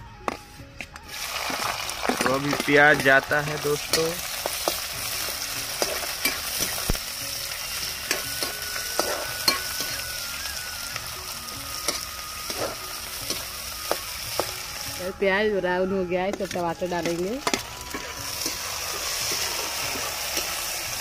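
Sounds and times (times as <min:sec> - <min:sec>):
steel ladle scraping a pan: 0:01.0 - 0:10.3, 0:11.7 - 0:15.1, 0:16.2 - 0:21.0
onions sizzling in hot oil: 0:01.1 - 0:21.0.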